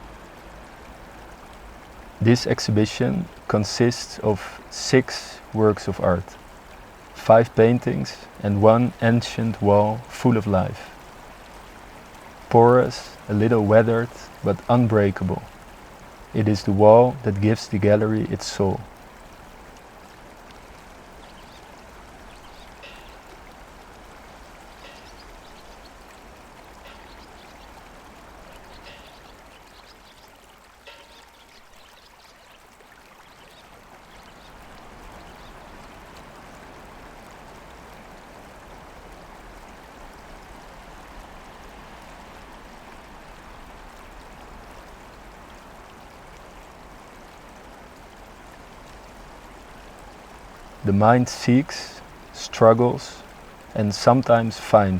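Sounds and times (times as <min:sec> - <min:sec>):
flowing water rushing: 0:00.0 - 0:54.9.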